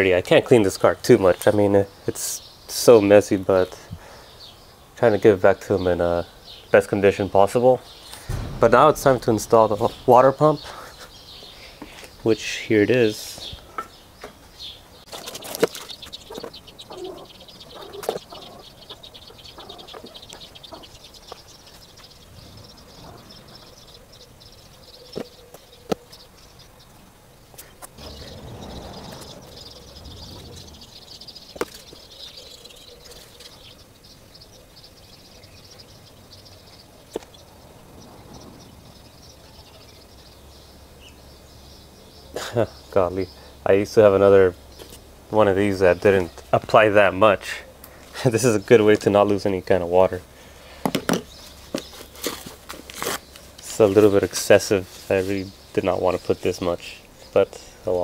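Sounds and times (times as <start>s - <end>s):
birds and insects chirping: 0.0s - 58.0s.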